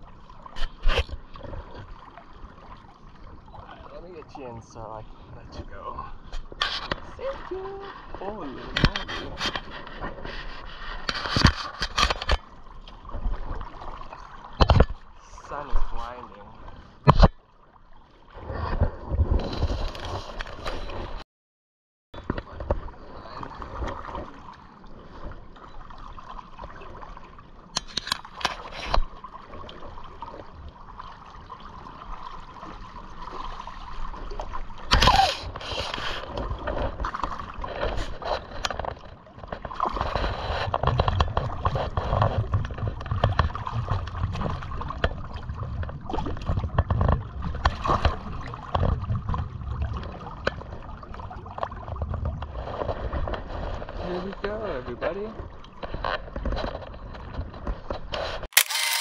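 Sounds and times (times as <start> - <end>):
water splashing and lapping: 0.0 - 21.2, 22.2 - 59.0.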